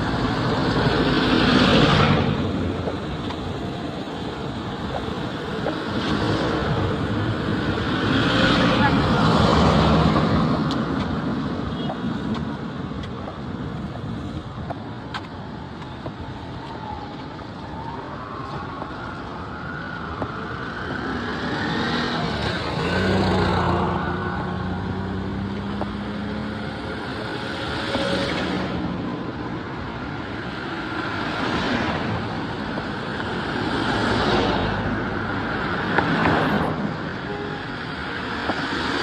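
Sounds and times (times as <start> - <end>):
vehicles driving past: 0.0 - 39.0.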